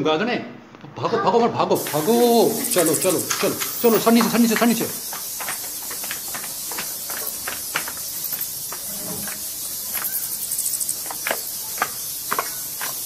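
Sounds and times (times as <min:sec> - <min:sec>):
crickets chirping: 0:01.8 - 0:13.0
footsteps of people hurrying: 0:01.8 - 0:13.0
steady hiss: 0:01.8 - 0:13.0.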